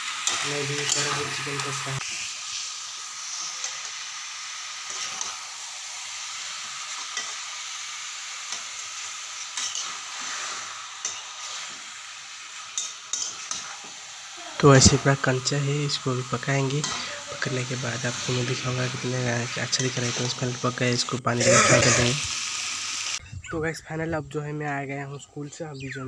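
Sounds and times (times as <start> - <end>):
food sizzling in a pan: 0.0 - 23.2.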